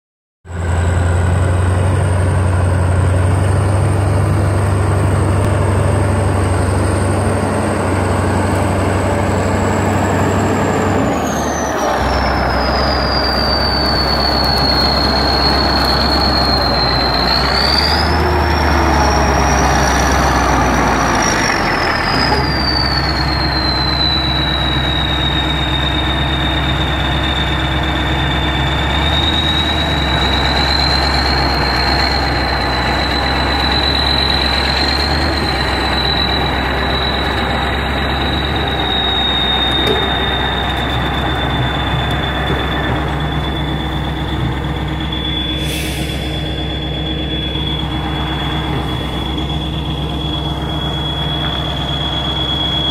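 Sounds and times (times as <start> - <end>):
tractor diesel engine running: 0.4 - 52.9
high whistle: 8.4 - 52.9.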